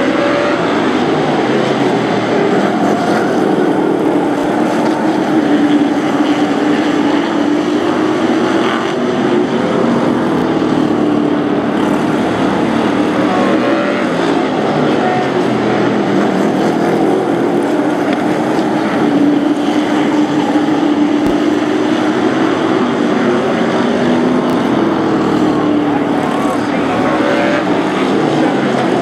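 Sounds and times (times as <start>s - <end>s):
race truck engines passing: 0.0s - 29.0s.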